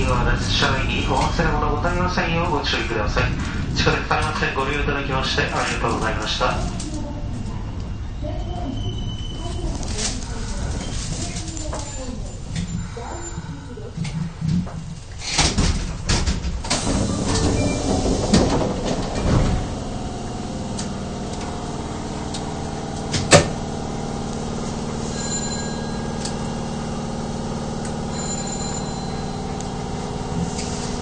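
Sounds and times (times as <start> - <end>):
subway train doors sliding open: 0.0 - 26.9, 28.0 - 31.0
clattering and rumble: 0.0 - 31.0
stopped train humming: 0.0 - 31.0.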